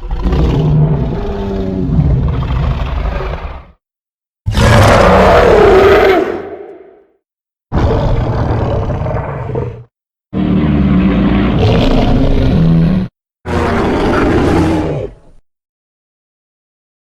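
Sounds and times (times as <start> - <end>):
giant ape roaring: 0.0 - 3.8, 4.5 - 7.0, 7.7 - 15.4.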